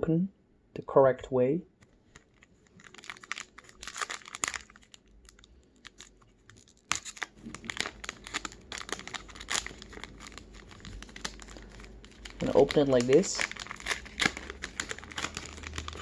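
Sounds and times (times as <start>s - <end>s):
foil wrapper crinkling and tearing: 2.0s - 16.0s.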